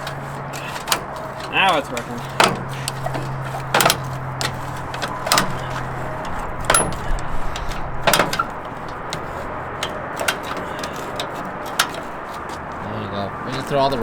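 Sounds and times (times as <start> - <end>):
sharp clunks: 0.0 - 12.8.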